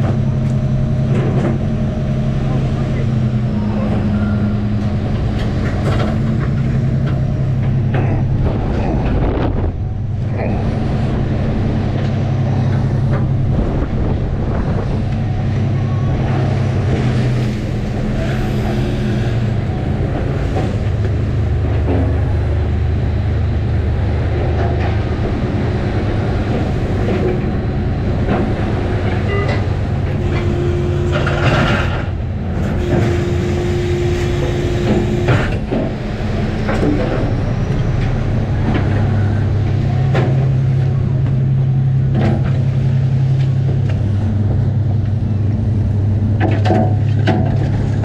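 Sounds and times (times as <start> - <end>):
boat engine and hydraulics drone: 0.0 - 48.0.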